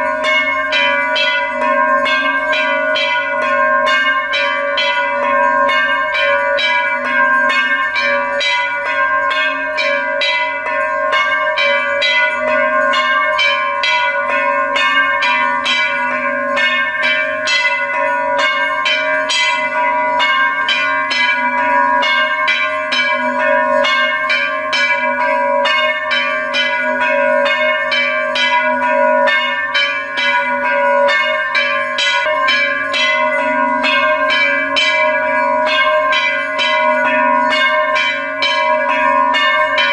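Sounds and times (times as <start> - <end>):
bells ringing rapidly: 0.0 - 39.9.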